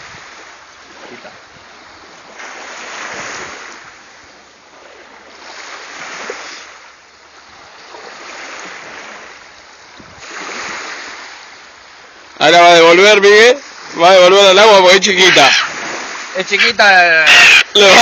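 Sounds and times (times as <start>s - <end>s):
waves breaking and washing in: 0.0s - 18.0s.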